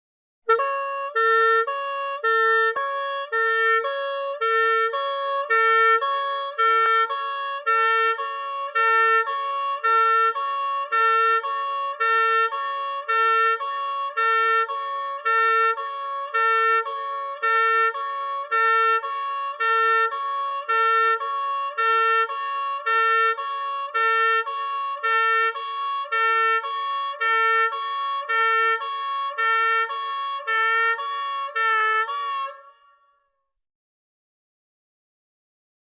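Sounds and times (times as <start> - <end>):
two-tone police siren: 0.5 - 33.5.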